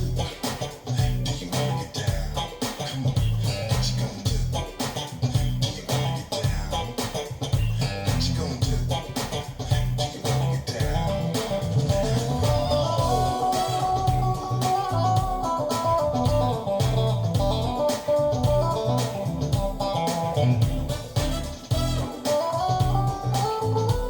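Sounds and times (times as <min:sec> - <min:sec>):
guitar and bass music over loudspeakers: 0:00.0 - 0:24.0.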